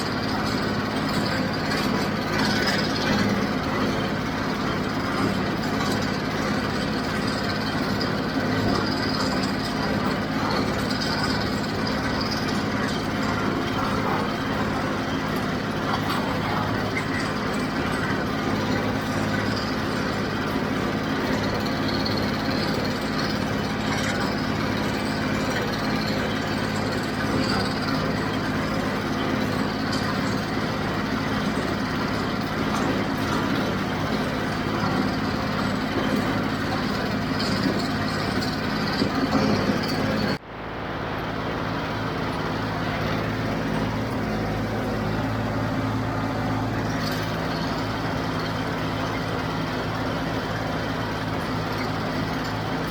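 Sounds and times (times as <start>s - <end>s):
square baler working: 0.0s - 52.9s
tractor diesel engine running: 0.0s - 52.9s.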